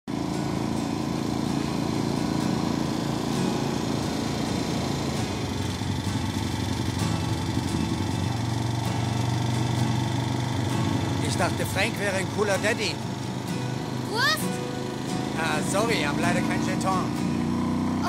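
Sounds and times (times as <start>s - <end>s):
motorcycle engine running: 0.1s - 18.0s.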